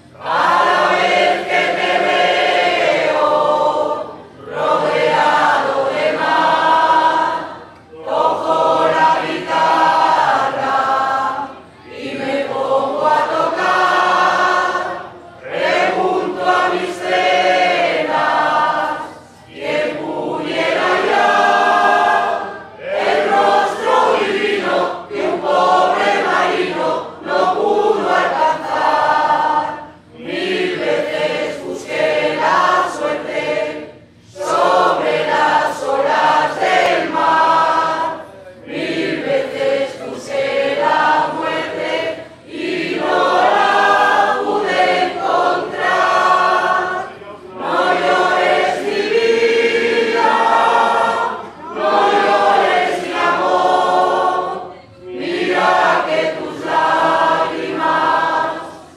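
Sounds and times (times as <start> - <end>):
mixed choir singing: 0.0 - 58.9.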